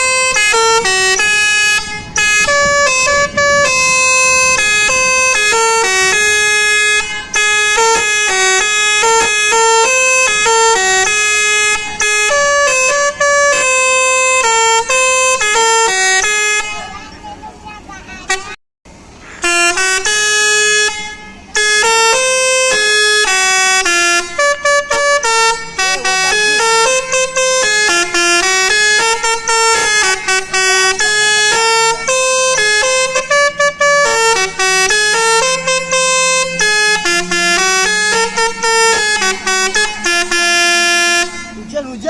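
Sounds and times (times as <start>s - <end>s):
musical bus horn tune: 0.0s - 17.1s, 18.2s - 18.6s, 19.2s - 41.8s.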